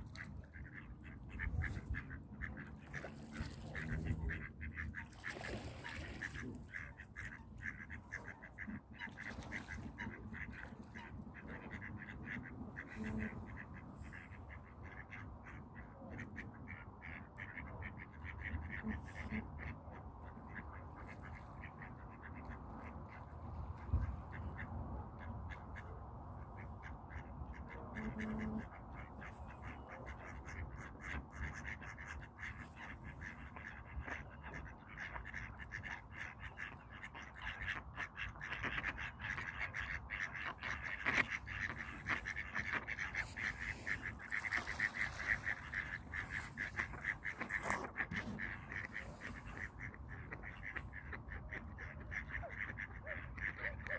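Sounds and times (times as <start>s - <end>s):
ducks quacking: 0.0s - 53.9s.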